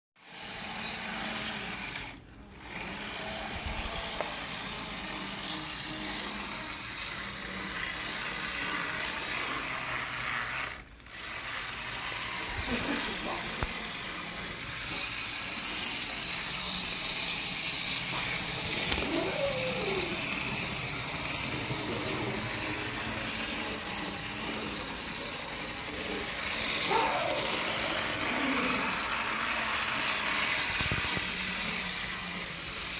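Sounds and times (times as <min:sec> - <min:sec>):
toy train motor whirring: 0:00.2 - 0:32.9.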